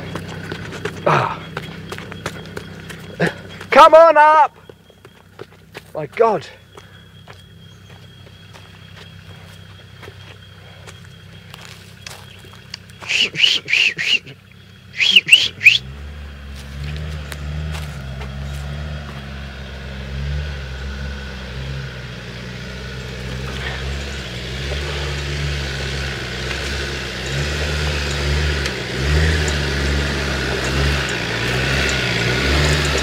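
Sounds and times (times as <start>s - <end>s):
engine labouring at low revs: 0.0s - 33.0s.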